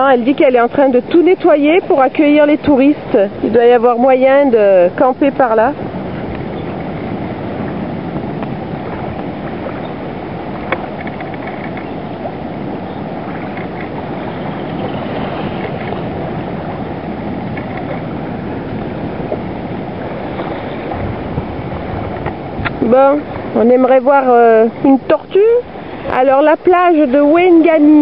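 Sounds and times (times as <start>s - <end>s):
water lapping at a shore: 0.0s - 28.0s
wind rushing: 0.9s - 28.0s.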